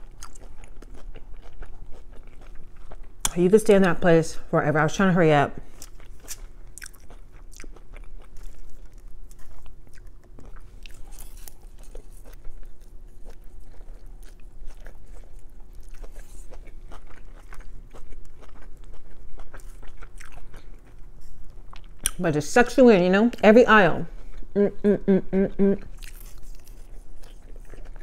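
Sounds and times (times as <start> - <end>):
close chewing and mouth sounds: 0.0 - 4.2, 5.6 - 28.0
faint steady hum: 0.0 - 28.0.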